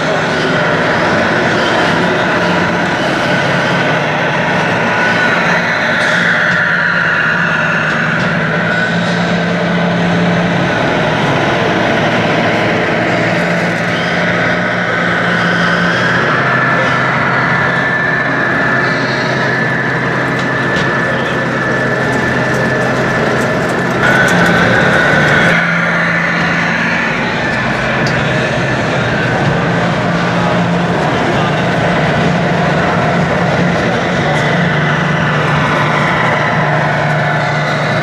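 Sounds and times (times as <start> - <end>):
din of a busy hall: 0.0 - 38.0
model trucks engine-like hum: 0.0 - 38.0.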